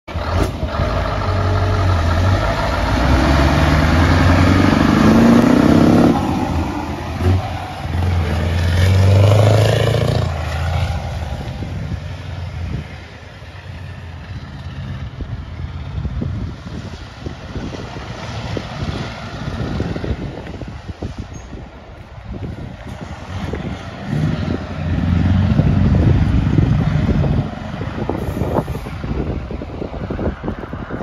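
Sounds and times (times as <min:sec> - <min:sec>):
diesel truck engine pulling away: 0:00.1 - 0:21.8, 0:22.4 - 0:31.0.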